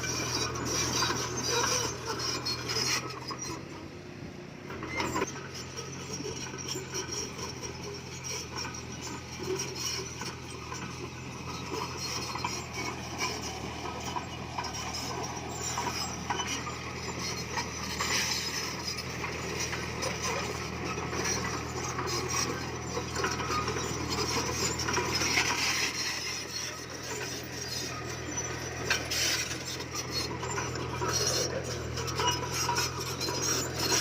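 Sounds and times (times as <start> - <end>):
bulldozer diesel engine running: 0.0 - 34.0
tracks clanking and scraping: 0.0 - 34.0.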